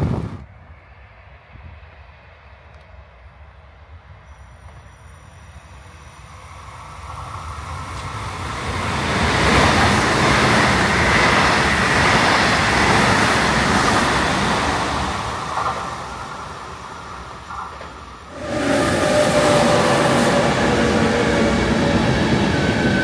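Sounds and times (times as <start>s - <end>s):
train passing on rails: 0.0s - 23.0s.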